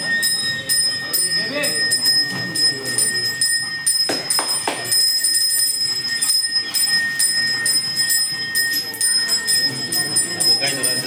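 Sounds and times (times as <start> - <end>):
hand bell ringing: 0.0 - 11.0.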